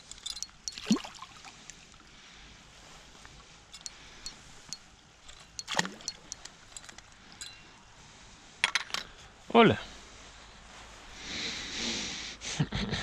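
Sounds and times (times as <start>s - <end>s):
low steady background: 0.0s - 13.0s.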